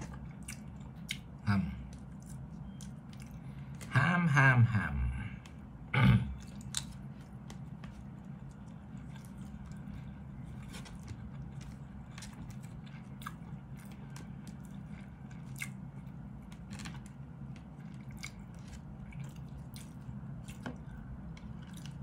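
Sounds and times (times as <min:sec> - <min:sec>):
person chewing: 0:00.0 - 0:03.9, 0:05.4 - 0:22.0
steady low hum: 0:00.0 - 0:22.0.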